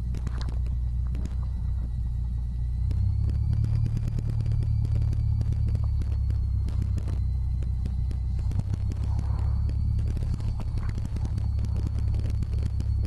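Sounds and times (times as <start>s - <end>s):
light aircraft engine droning: 0.0s - 13.0s
small clicks and rattles: 0.0s - 13.0s.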